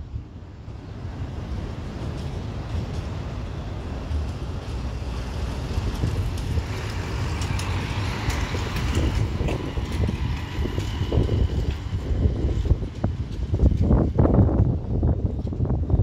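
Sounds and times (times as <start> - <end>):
distant jet airliner engines: 0.0 - 16.0
road traffic: 0.0 - 16.0
wind on microphone: 0.9 - 16.0.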